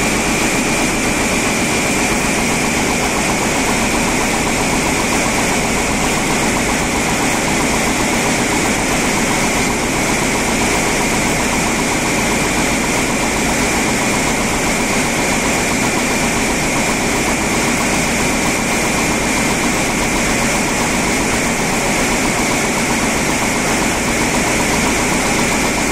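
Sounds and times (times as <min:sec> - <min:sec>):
loom mechanical clatter: 0:00.0 - 0:25.9.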